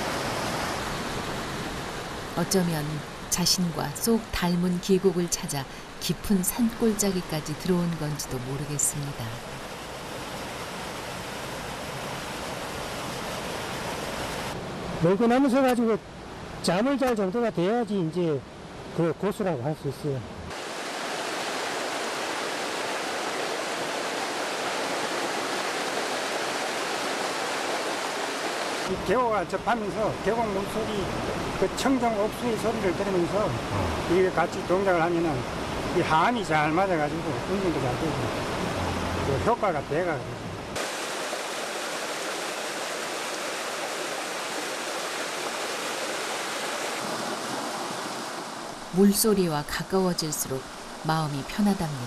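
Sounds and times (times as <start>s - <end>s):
stream rushing over rocks: 0.0s - 3.3s, 5.1s - 15.5s, 20.5s - 51.8s.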